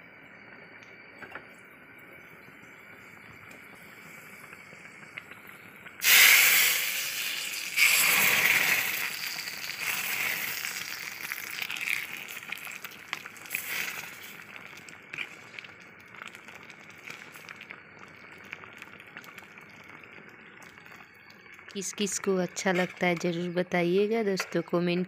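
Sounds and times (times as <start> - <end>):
sizzling and crackling: 0.2 - 25.0
hot oil hissing: 2.6 - 23.0.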